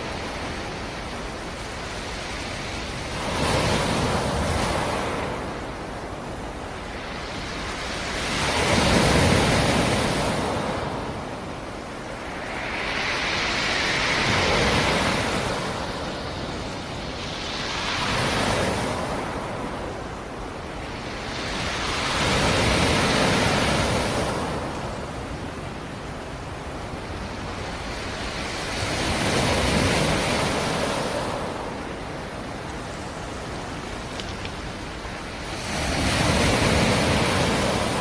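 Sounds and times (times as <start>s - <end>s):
waves breaking on shore: 0.0s - 38.0s.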